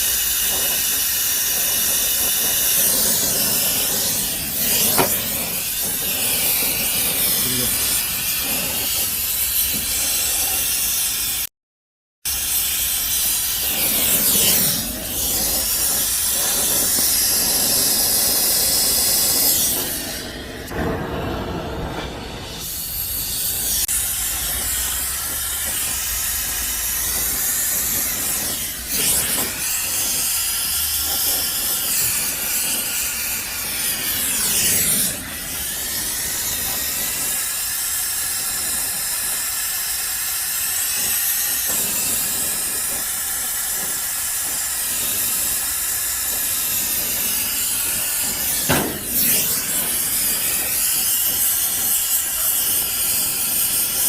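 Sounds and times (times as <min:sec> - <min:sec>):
hissing jet: 0:00.0 - 0:11.5, 0:12.3 - 0:54.0.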